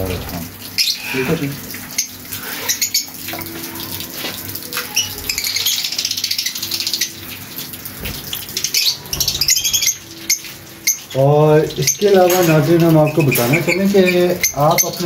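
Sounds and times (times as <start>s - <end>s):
lovebirds chattering and chirping: 0.6s - 3.3s, 4.6s - 7.5s, 8.4s - 15.0s.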